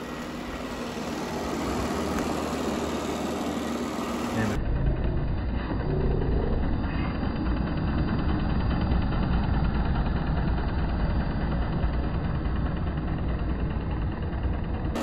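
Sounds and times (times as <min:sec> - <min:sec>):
robot vacuum motor hum: 0:00.0 - 0:15.0.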